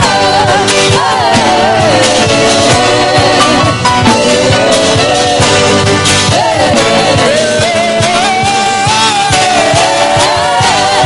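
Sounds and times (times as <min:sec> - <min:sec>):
acoustic guitar: 0:00.0 - 0:11.0
band playing steady beat: 0:00.0 - 0:11.0.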